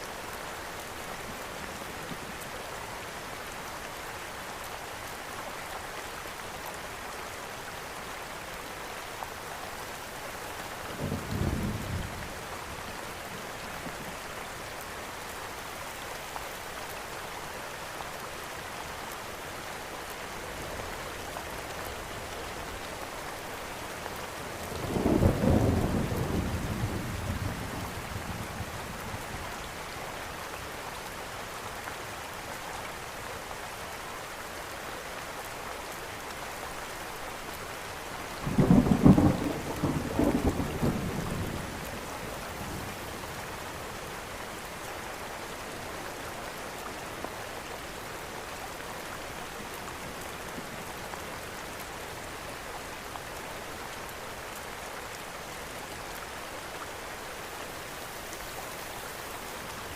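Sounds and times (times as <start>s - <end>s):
steady rain hissing: 0.0s - 59.9s.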